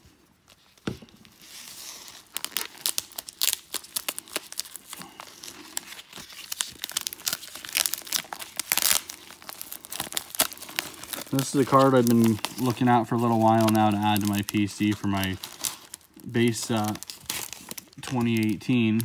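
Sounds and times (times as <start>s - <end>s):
plastic crinkling: 0.0s - 19.0s
plastic mailer tearing: 0.5s - 19.0s.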